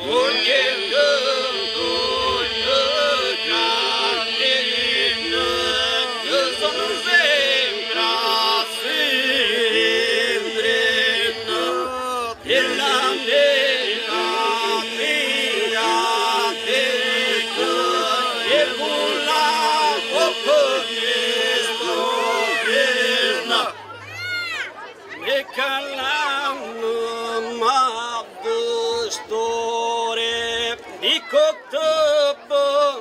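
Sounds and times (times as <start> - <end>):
male choir singing over drone: 0.0 - 23.8, 25.3 - 30.4.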